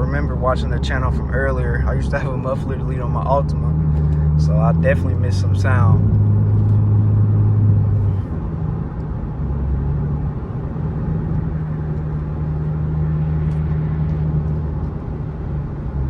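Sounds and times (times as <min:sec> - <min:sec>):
car exhaust drone while driving: 0:00.0 - 0:16.0.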